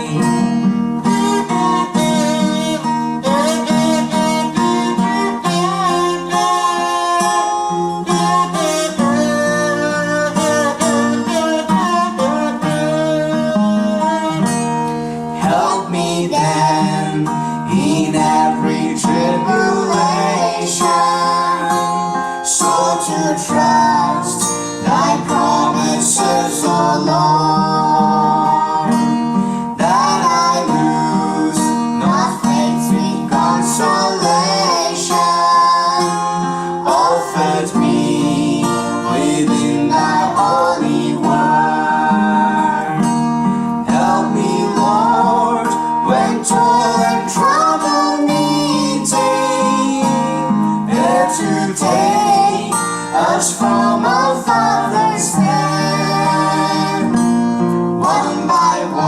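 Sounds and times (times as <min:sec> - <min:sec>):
person singing: 0:00.0 - 0:57.4, 0:58.0 - 0:59.0
acoustic guitar strumming: 0:00.0 - 0:59.0.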